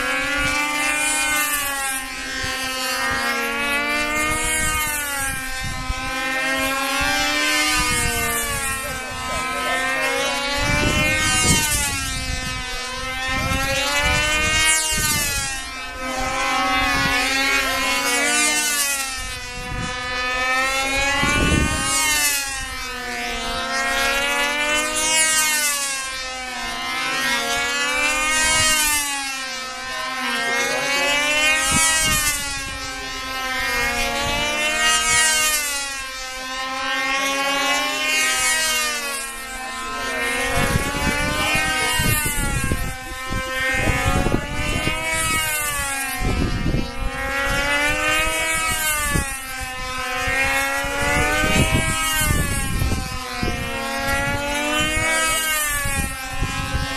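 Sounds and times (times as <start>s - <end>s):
model airplane engine buzzing: 0.0s - 56.9s.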